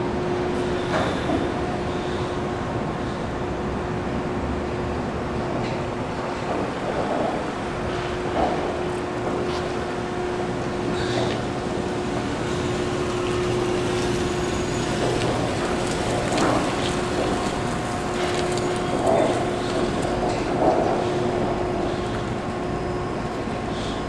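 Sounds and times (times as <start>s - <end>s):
machine hum with steady tone: 0.0s - 24.0s
rumbling background: 0.0s - 24.0s.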